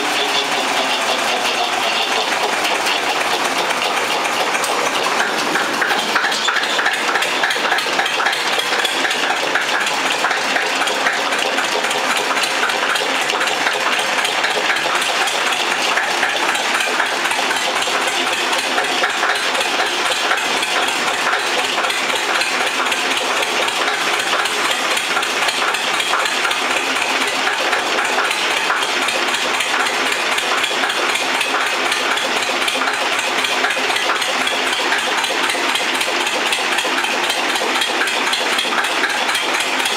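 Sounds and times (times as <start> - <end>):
diesel tractor engine clattering: 0.0 - 39.9.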